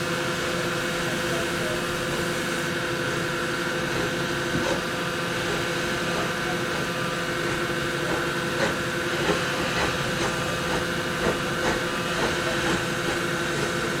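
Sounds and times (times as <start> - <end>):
train mechanical hum and hiss: 0.0 - 14.0.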